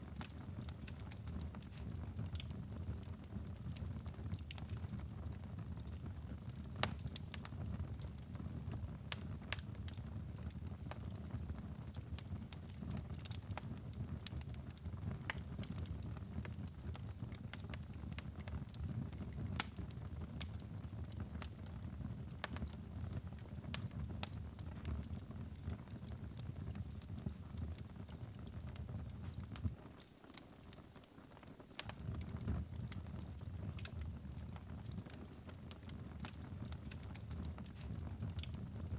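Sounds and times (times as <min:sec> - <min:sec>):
low rumble of flames: 0:00.0 - 0:29.8, 0:31.7 - 0:38.9
fire pops and snaps: 0:00.0 - 0:38.9.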